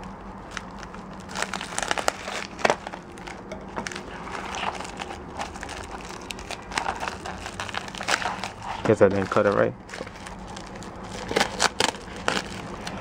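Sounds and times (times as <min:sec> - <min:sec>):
padded mailer crinkling and tearing: 0:00.0 - 0:13.0.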